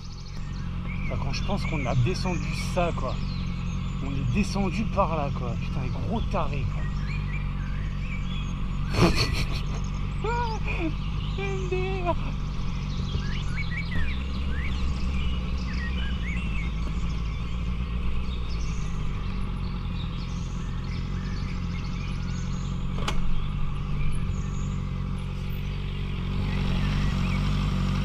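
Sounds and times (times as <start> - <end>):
motorcycle engine at low revs: 0.0 - 28.0.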